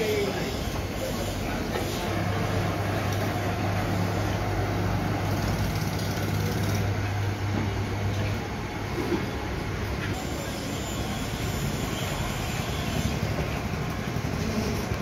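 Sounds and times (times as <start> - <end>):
workshop noise: 0.0 - 15.0.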